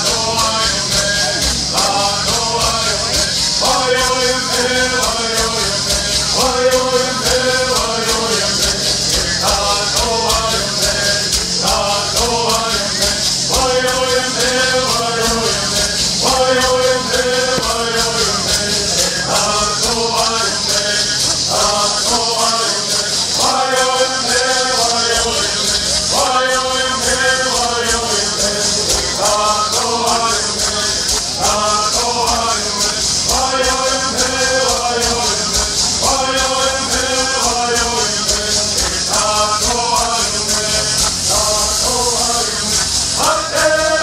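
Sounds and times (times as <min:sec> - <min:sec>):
gourd rattles shaking: 0:00.0 - 0:44.0
group singing bird songs: 0:00.0 - 0:44.0.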